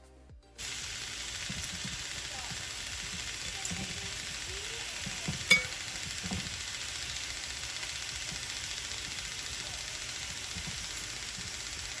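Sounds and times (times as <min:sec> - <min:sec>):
steak sizzling on grill pan: 0:00.6 - 0:12.0.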